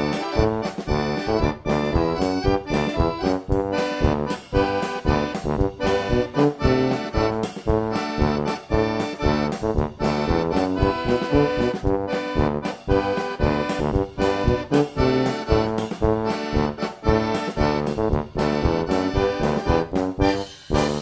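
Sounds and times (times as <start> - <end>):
instrumental music with quick beat: 0.0 - 21.0.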